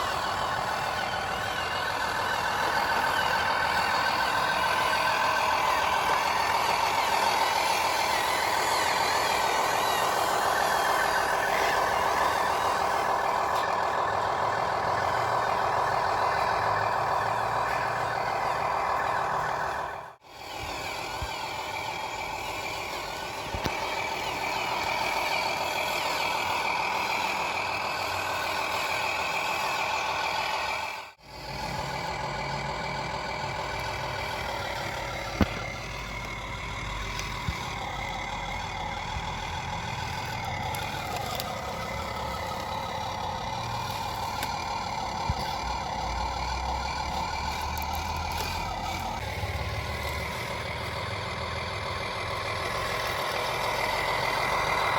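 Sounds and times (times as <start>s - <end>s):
truck engine rumble: 0.0s - 54.9s.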